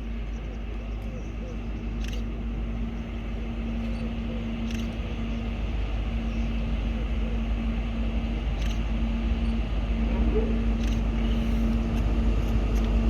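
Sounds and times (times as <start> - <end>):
diesel train engine rumble: 0.0 - 13.0.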